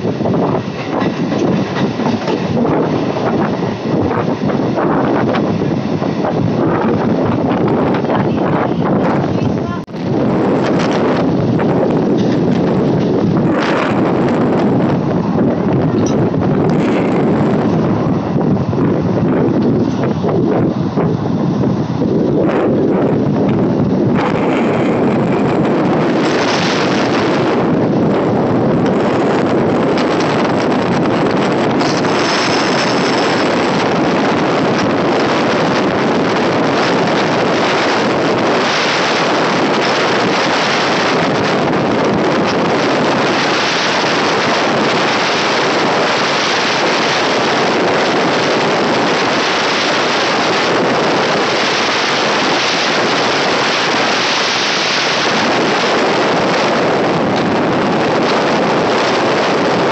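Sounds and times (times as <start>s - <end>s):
train running at speed: 0.0s - 59.9s
wind rushing over microphone: 0.0s - 59.9s.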